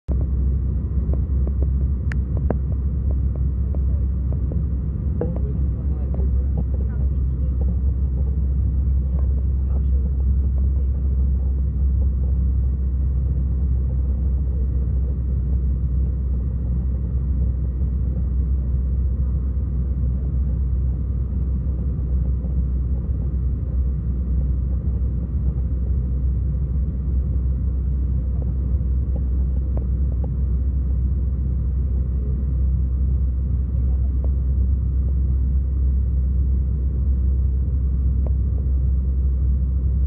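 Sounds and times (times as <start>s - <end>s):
airplane cabin engine rumble: 0.0s - 40.0s
faint steady whine: 0.1s - 40.0s.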